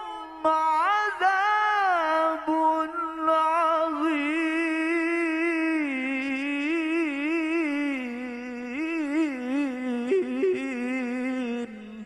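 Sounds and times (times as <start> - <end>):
man chanting melodic recitation: 0.0 - 12.0.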